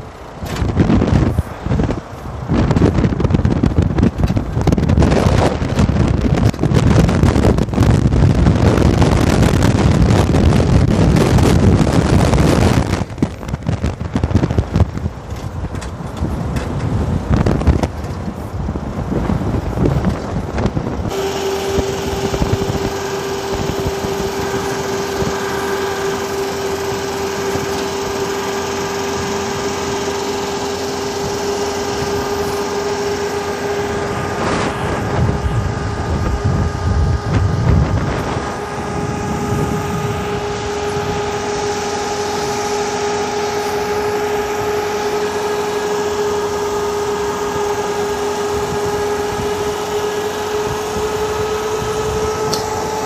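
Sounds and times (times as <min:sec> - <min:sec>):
road noise: 0:00.0 - 0:53.0
vehicle engine drone and whine: 0:00.0 - 0:53.0
wind buffeting microphone: 0:00.0 - 0:53.0.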